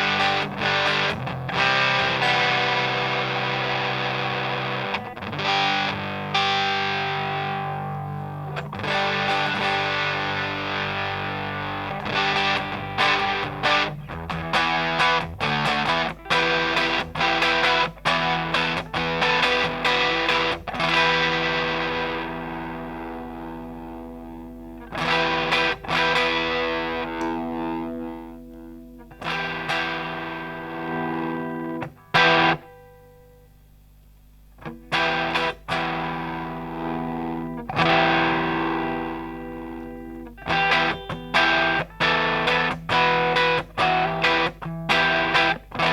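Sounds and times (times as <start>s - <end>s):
distorted electric guitar chords: 0.0s - 45.9s.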